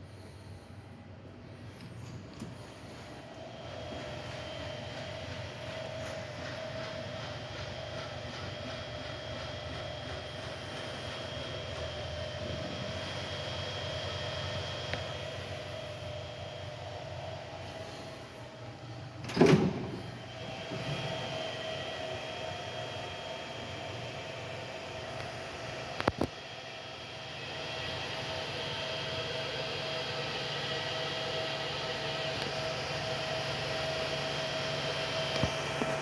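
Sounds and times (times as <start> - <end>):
grinding machine hum and whine: 0.0 - 36.0.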